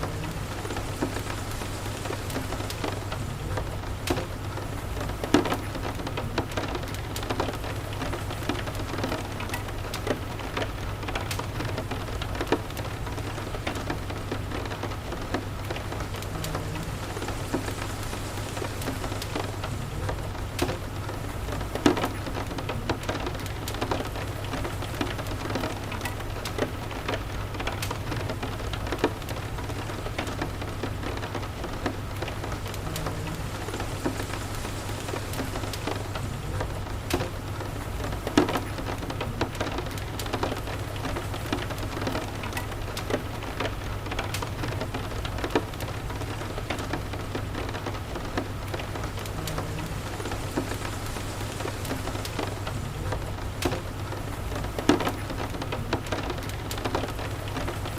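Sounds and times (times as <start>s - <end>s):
constant low rumble: 0.0s - 57.9s
steady rain falling: 0.0s - 57.9s
wood fire crackling: 0.0s - 57.9s.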